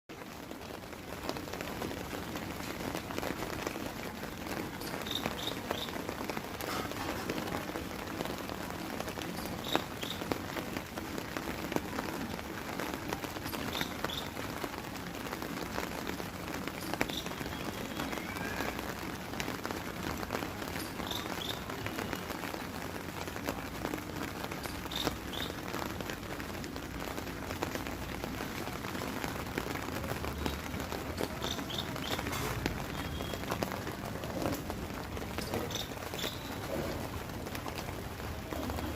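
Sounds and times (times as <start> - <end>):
rain pattering on surfaces: 0.1 - 38.9.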